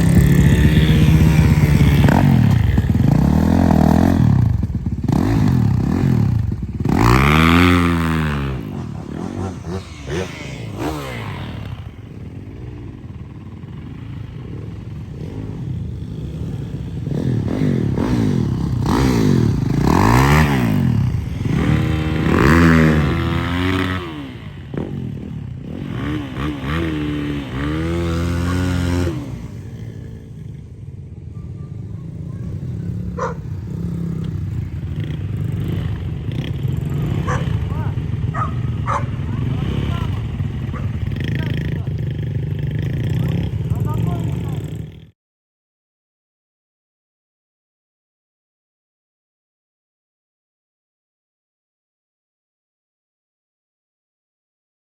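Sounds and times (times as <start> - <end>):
dirt bike engines revving: 0.0 - 45.1.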